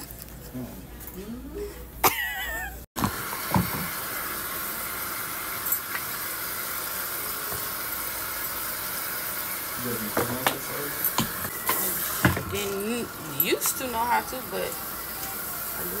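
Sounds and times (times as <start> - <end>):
water running into a basin: 3.0 - 16.0.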